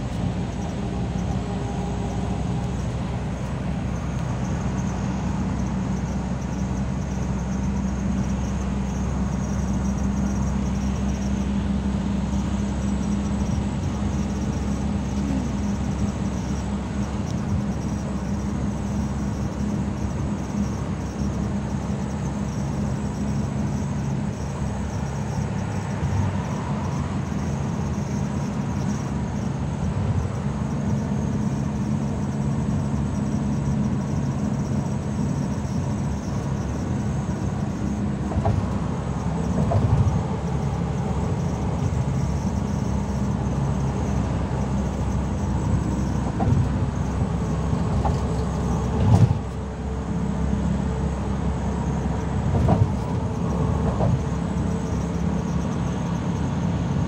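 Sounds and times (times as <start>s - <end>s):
car engine and road hum: 0.0s - 57.0s.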